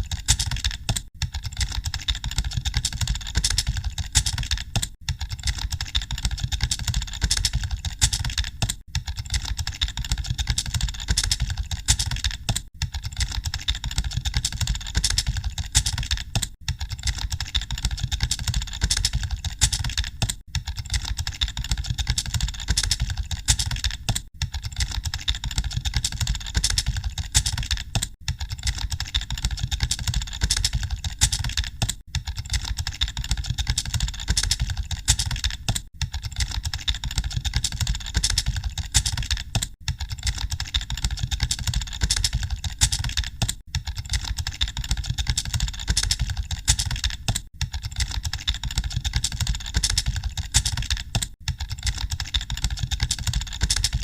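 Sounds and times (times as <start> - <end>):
many keyboards clattering: 0.0 - 54.0.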